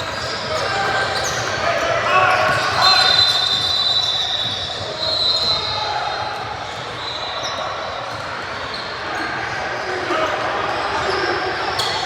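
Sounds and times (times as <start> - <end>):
crowd chatter echoing: 0.0 - 12.0
sneakers squeaking on floor: 0.0 - 12.0.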